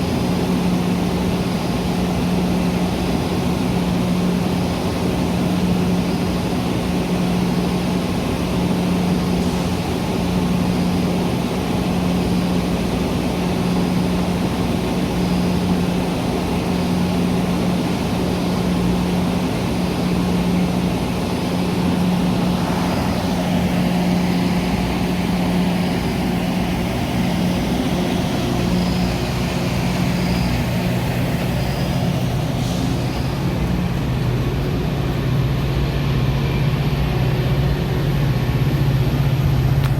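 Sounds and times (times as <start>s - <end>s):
commuter train engine hum: 0.0s - 39.9s.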